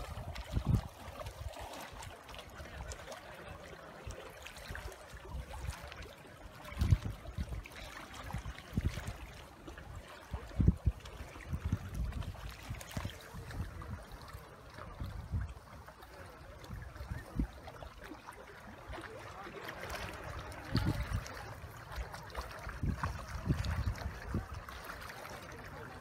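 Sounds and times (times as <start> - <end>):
waves lapping against rocks: 0.0 - 26.0.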